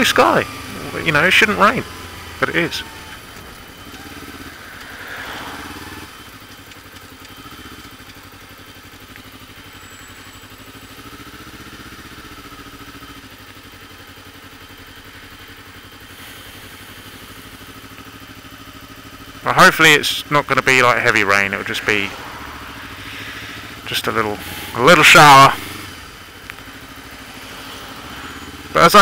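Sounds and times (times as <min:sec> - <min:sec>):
motorcycle engine running at low revs: 0:00.0 - 0:29.0.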